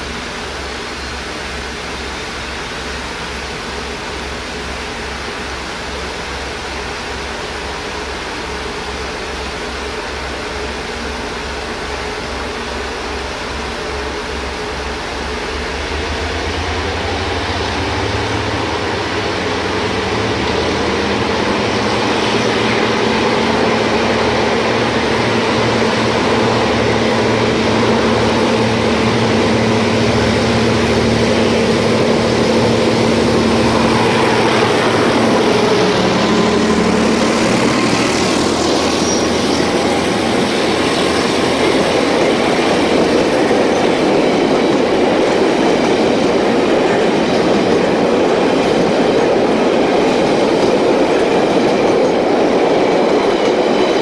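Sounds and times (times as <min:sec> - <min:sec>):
diesel locomotive engine droning: 0:00.0 - 0:54.0
train wheels on rails clacking: 0:05.9 - 0:54.0.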